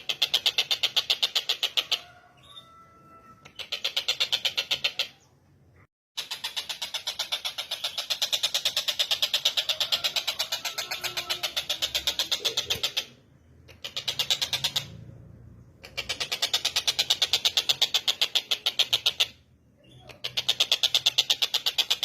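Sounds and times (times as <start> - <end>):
bird rattling call: 0.0 - 2.2, 3.5 - 5.2, 6.2 - 15.0, 15.8 - 19.4, 20.0 - 22.0.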